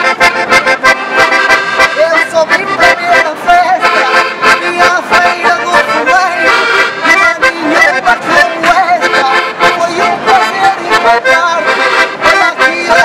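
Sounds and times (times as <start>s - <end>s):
button accordion folk tune: 0.0s - 13.0s.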